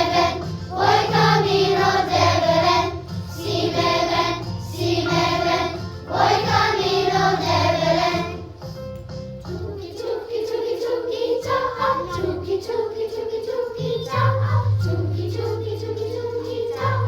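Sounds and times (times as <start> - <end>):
choir singing: 0.0 - 8.4, 9.6 - 17.0.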